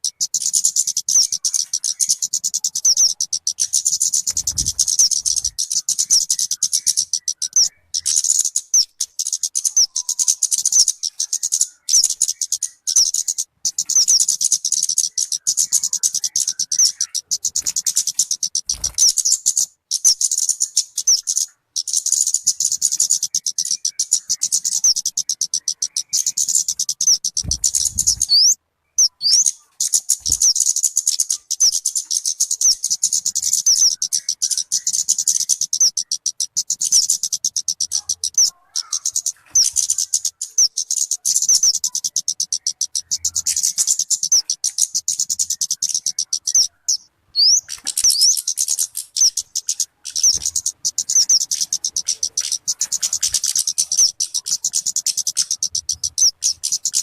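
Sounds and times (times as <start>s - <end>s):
bird chirping rapidly: 0.0s - 57.0s.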